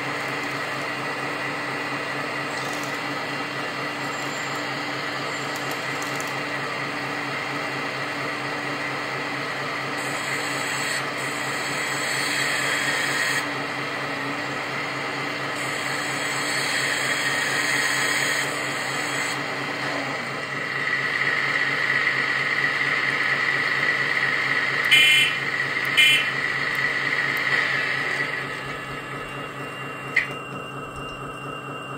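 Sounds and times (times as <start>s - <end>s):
electric hydraulic pump whining: 0.0s - 31.9s.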